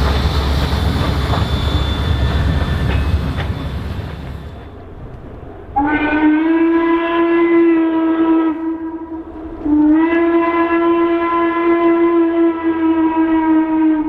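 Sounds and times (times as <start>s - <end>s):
steam locomotive whistle blasts: 0.0s - 4.7s, 5.8s - 14.0s.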